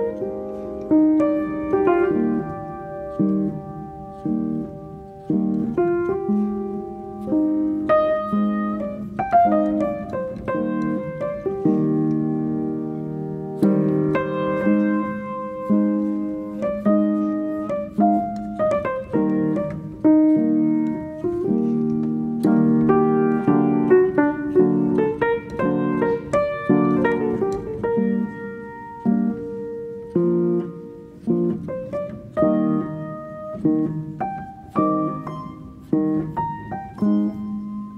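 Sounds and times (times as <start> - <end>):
piano music: 0.0 - 37.9.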